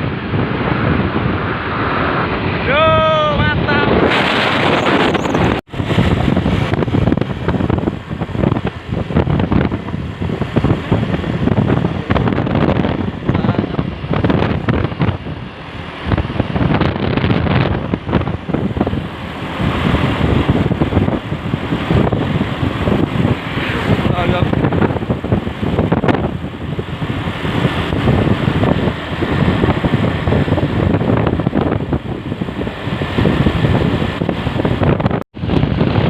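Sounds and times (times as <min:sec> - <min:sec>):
wind buffeting microphone: 0:00.0 - 0:36.0
truck running noise: 0:03.7 - 0:36.0.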